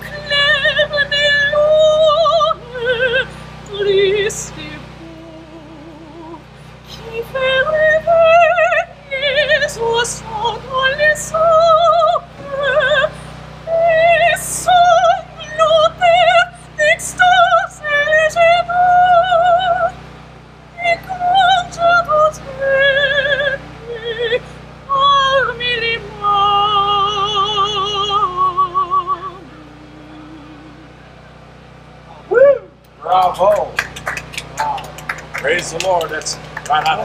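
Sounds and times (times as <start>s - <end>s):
soprano singing opera: 0.0s - 20.0s, 20.8s - 30.8s.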